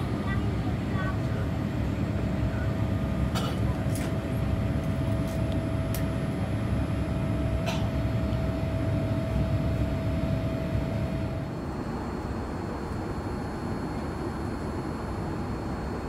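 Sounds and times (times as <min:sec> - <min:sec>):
aircraft cabin engine rumble: 0:00.0 - 0:16.0
faint steady hum: 0:00.0 - 0:16.0.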